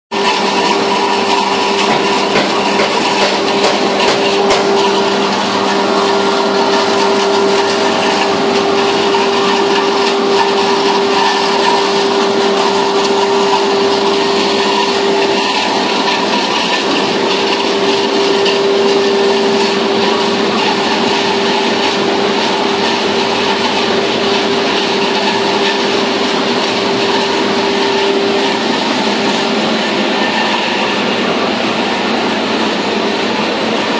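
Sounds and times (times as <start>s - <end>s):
machine whirring: 0.1s - 33.9s
motor and blower hum: 0.1s - 33.9s.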